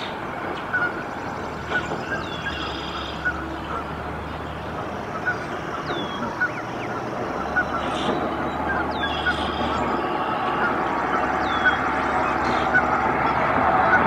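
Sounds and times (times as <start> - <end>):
goslings peeping: 0.6 - 14.0.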